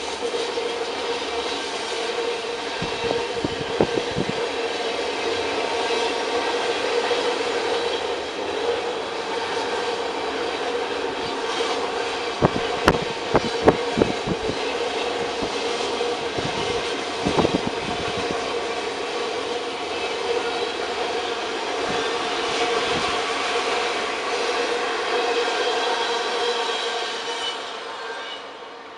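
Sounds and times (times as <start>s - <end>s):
train wheels rumbling on rail: 0.0s - 28.9s.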